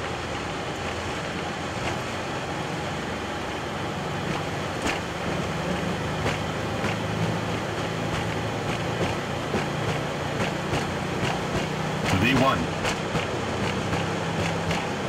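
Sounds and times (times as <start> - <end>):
jet engine and airflow rush: 0.5 - 15.0.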